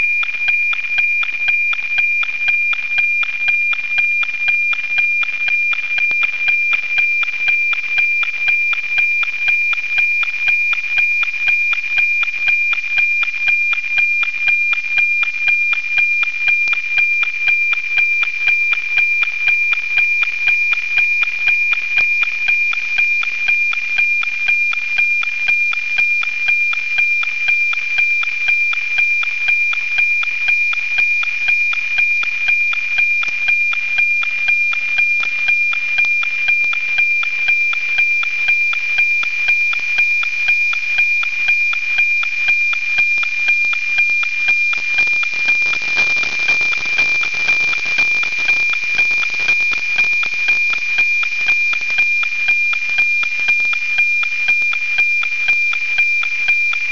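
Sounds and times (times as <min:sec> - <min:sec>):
steady high tone with ticking beat: 0:00.0 - 0:56.9.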